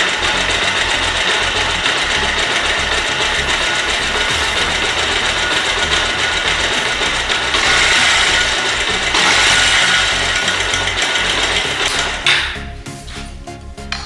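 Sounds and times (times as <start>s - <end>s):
motorcycle engine idling: 0.0s - 12.7s.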